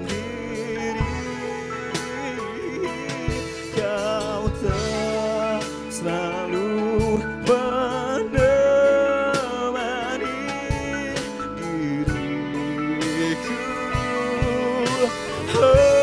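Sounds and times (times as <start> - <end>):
bass guitar: 0.0 - 16.0
drum kit: 0.0 - 16.0
electric guitar: 0.0 - 16.0
person singing with vibrato: 0.0 - 16.0.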